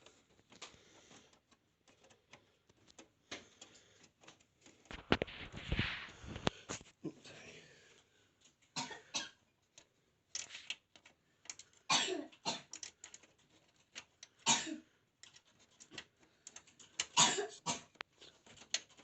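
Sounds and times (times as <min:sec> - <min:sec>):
clicks taps and scrapes of screwing: 0:00.0 - 0:07.0, 0:08.0 - 0:19.0.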